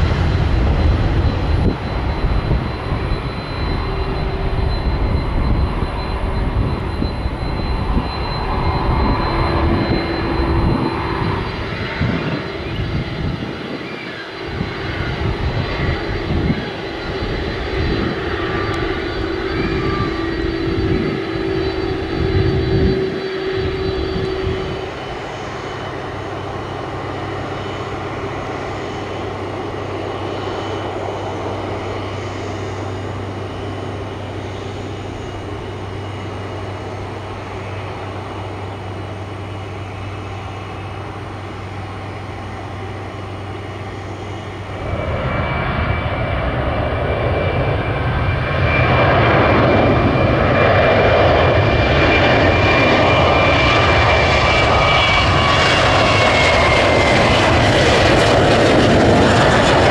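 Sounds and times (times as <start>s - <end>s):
high engine whine: 0.0s - 59.9s
jet engines rumbling: 0.0s - 59.9s.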